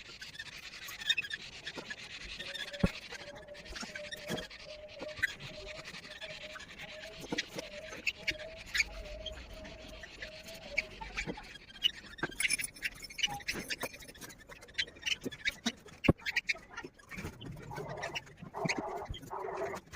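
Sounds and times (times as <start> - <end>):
caged birds chirping: 0.0 - 19.9.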